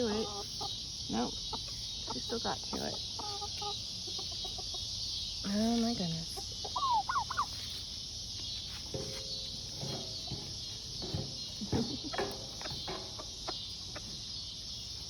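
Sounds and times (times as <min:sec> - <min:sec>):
chickens clucking: 0:00.0 - 0:15.0
crickets chirping: 0:00.0 - 0:15.0.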